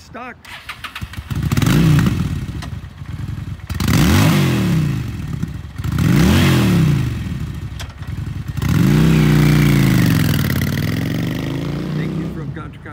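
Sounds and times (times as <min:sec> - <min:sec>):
motorcycle engine revving: 0:00.5 - 0:12.9.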